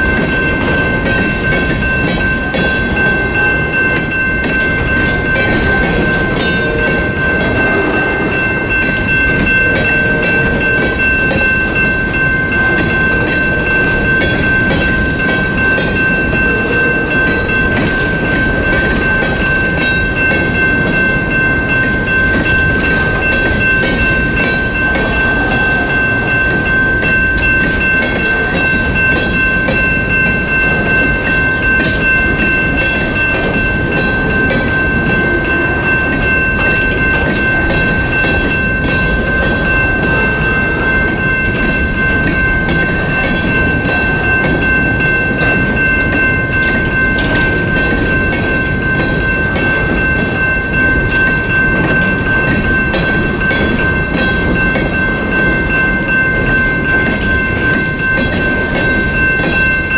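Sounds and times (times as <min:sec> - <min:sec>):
freight train wheels rumbling on rails: 0:00.0 - 0:59.9
steady high-pitched tone: 0:00.0 - 0:59.9.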